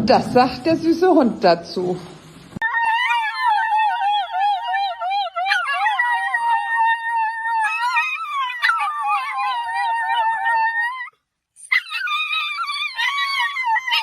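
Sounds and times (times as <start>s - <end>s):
dog howling: 2.6s - 14.0s.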